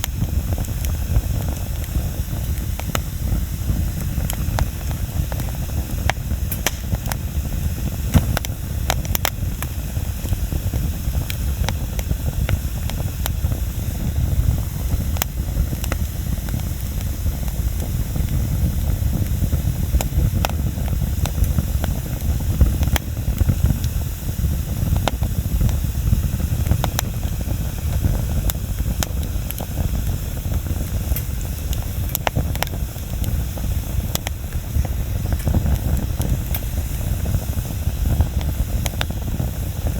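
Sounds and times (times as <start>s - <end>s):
bonfire burning: 0.0s - 39.9s
wood crackling and popping: 0.0s - 39.9s.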